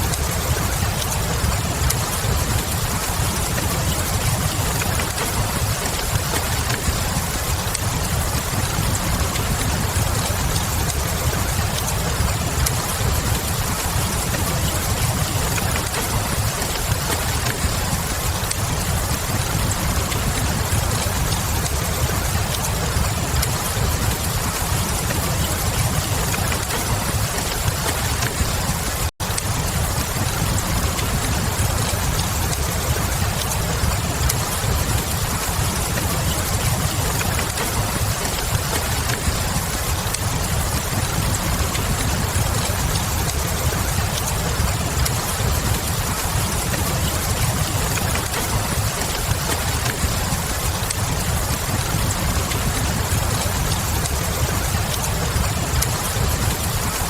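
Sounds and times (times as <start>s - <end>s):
faint fireplace crackle: 0.0s - 57.0s
steady rain: 0.0s - 57.0s.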